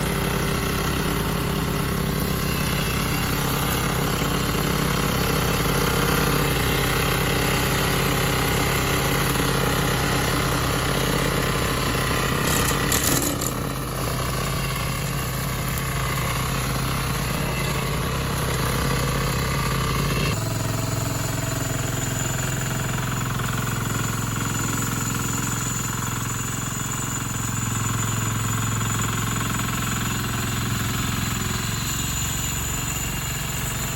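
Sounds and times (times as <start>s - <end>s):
lawnmower engine running: 0.0s - 33.9s.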